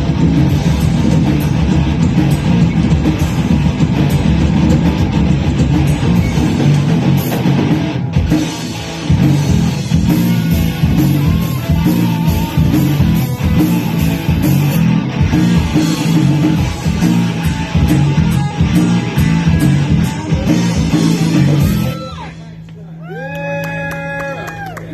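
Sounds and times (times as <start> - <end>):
drum kit pounding: 0.0 - 22.2
loud electric guitar: 0.0 - 22.7.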